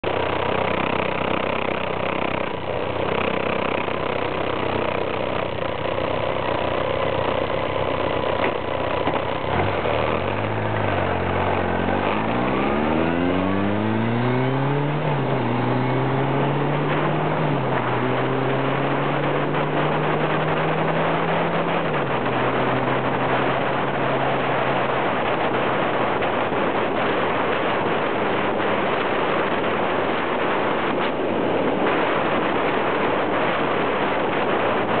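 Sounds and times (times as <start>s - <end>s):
motorcycle engine accelerating: 0.0s - 35.0s
wind noise: 0.0s - 35.0s.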